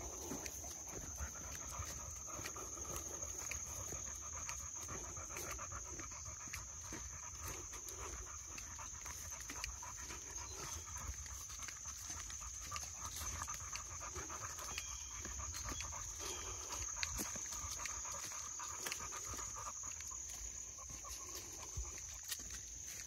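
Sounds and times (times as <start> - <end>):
dogs panting: 0.0 - 23.0
footstep clicks on trail: 0.0 - 23.0.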